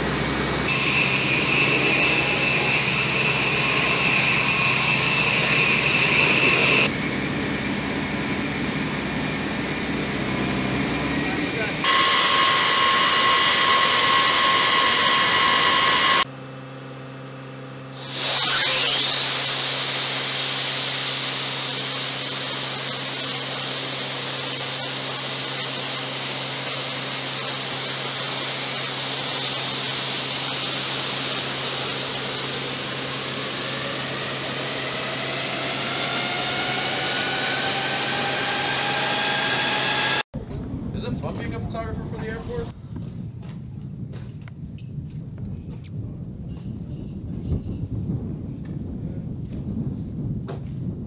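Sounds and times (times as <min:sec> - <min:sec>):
jet engine noise: 0:00.0 - 0:16.3, 0:17.8 - 0:51.0
jet turbine whine: 0:00.0 - 0:51.0
low hum: 0:00.0 - 0:51.0.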